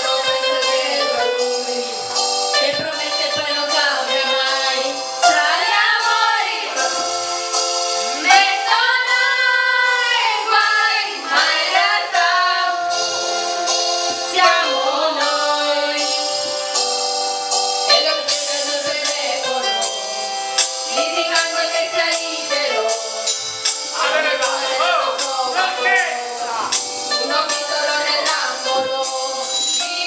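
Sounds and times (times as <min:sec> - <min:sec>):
women singing together: 0:00.0 - 0:07.3, 0:08.1 - 0:13.2, 0:14.0 - 0:16.6, 0:17.9 - 0:20.3, 0:20.9 - 0:23.3, 0:24.0 - 0:25.7, 0:27.1 - 0:30.0
instrumental backing chords: 0:00.0 - 0:30.0.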